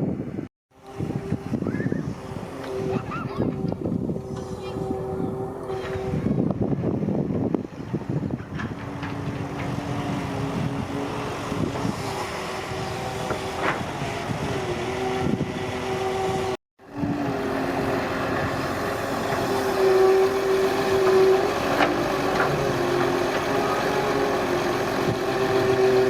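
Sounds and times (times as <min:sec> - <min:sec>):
excavator diesel engine: 0:00.3 - 0:26.0.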